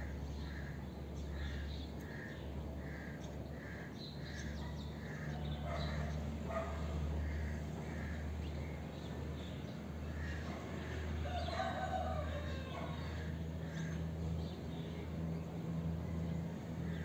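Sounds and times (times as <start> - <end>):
distant aircraft engine drone: 0.0 - 17.0.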